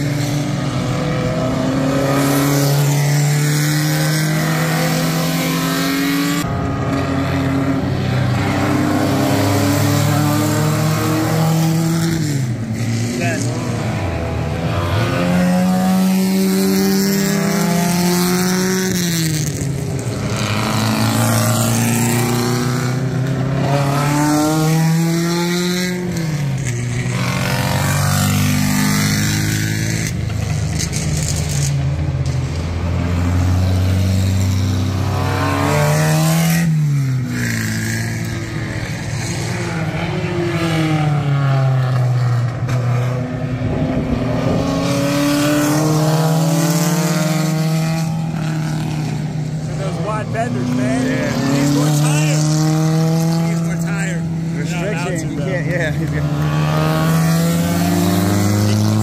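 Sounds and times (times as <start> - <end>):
racing car engines passing: 0.0 - 59.0.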